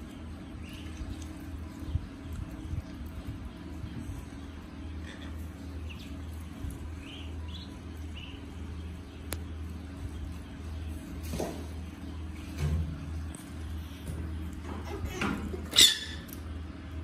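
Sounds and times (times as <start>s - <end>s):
ducklings peeping: 0.0s - 17.0s
steady low hum: 0.0s - 17.0s.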